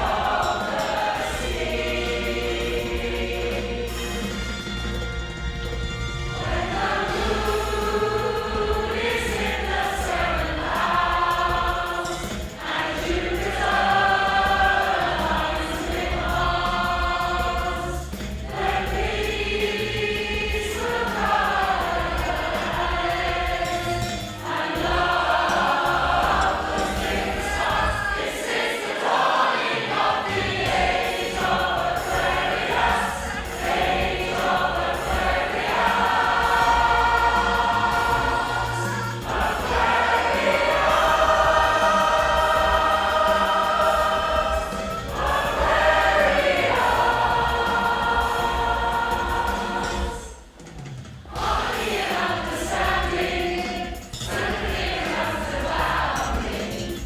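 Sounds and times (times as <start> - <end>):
women's choir singing: 0.0 - 4.6, 6.4 - 50.6, 51.2 - 57.0.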